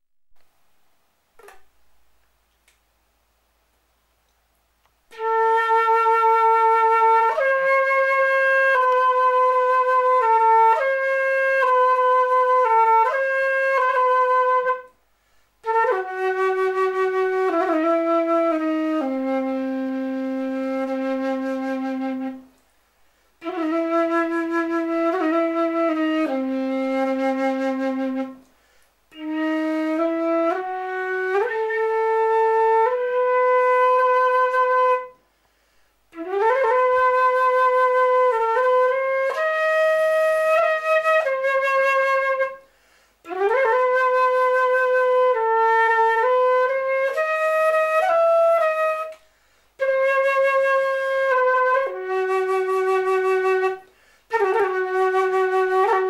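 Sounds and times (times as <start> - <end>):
solo flute playing a slow lament: 5.1 - 15.0, 15.6 - 35.4, 36.1 - 56.0.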